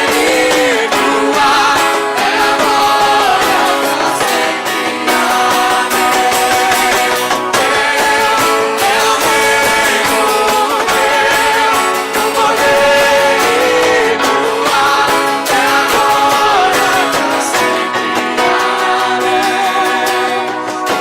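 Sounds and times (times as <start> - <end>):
worship band music with guitar: 0.0 - 21.0.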